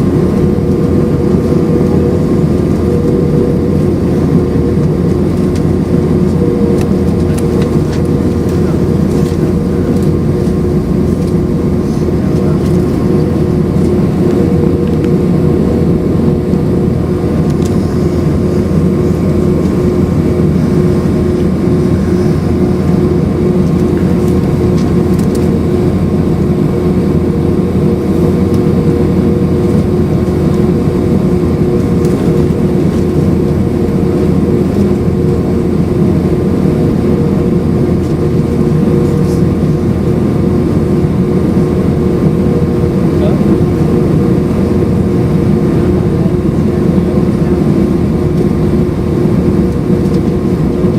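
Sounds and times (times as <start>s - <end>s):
jet engine cabin roar: 0.0s - 50.9s.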